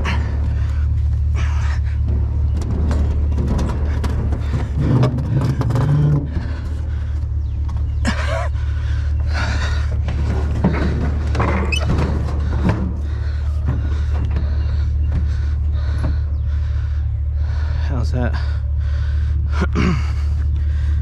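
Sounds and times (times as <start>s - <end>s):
irregular knocks and clatter: 0.0s - 17.8s
truck engine idling: 0.0s - 21.0s.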